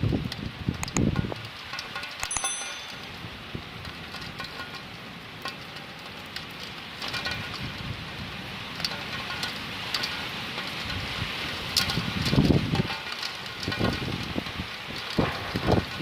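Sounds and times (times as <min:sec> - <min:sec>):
steady rain falling: 0:00.0 - 0:02.2, 0:02.9 - 0:16.0.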